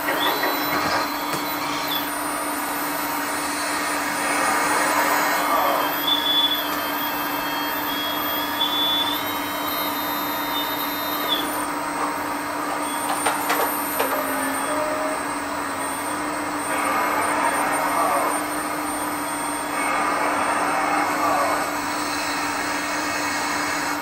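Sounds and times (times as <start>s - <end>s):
hydraulic hum and whine: 0.0s - 24.0s.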